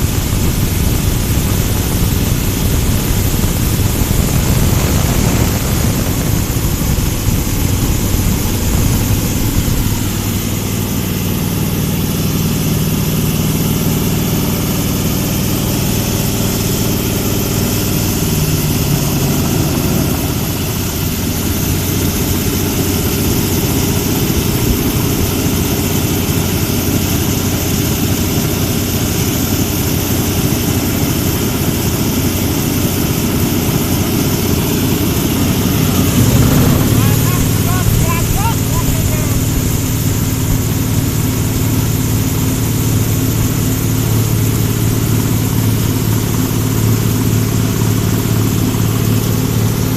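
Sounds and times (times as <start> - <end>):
grinding machine humming: 0.0 - 49.9.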